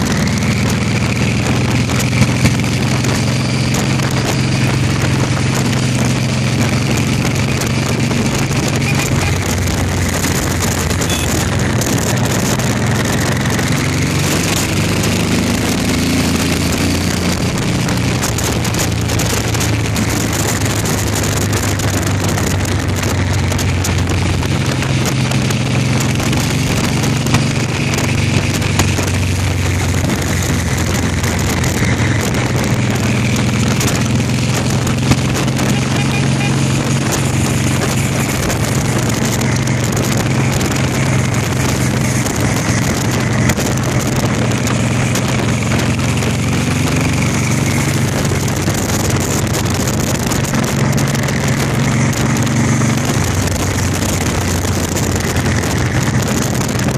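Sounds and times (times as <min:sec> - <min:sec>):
motorcycle engine running: 0:00.0 - 0:56.9
wind noise on microphone: 0:00.0 - 0:56.9.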